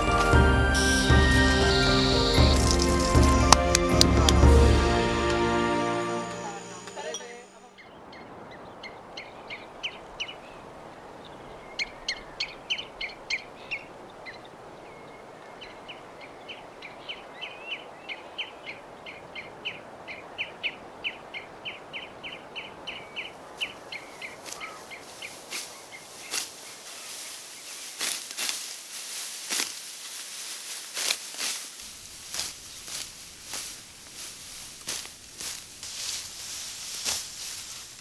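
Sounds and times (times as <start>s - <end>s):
birds chirping: 0.0s - 28.4s, 31.7s - 38.0s
outdoor ambience hiss: 0.0s - 38.0s.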